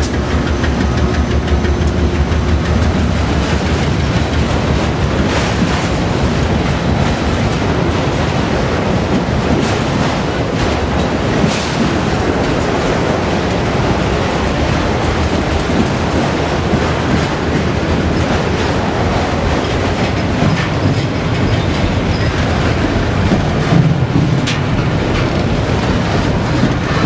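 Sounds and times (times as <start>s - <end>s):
freight train wheels rumbling: 0.0s - 27.0s
wheels clicking over rail joints: 0.0s - 27.0s.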